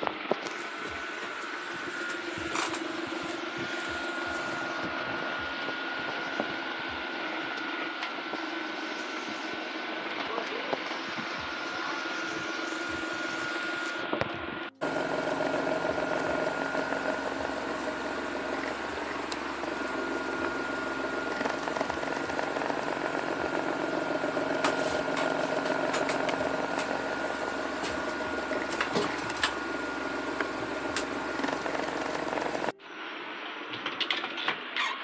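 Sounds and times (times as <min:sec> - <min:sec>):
mechanical hum with whine: 0:00.0 - 0:35.0.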